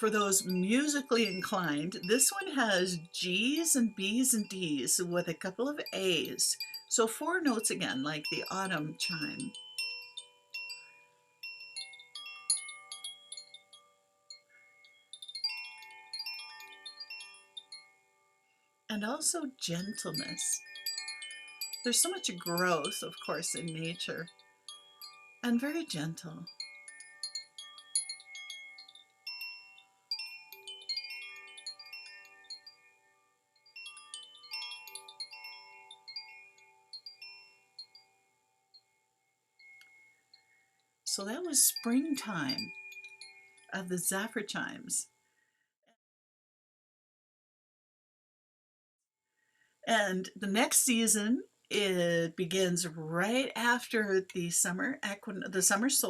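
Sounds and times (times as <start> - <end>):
tuned wind chime ringing: 0.0 - 45.6.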